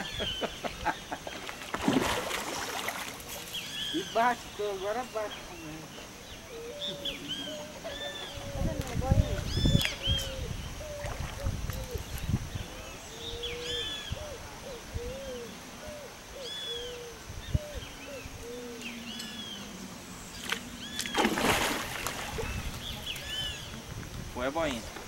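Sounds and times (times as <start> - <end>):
birds calling: 0.0 - 24.8.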